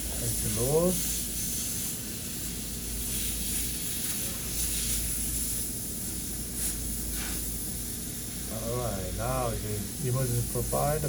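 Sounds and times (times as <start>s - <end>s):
steady hissing noise: 0.0s - 11.0s.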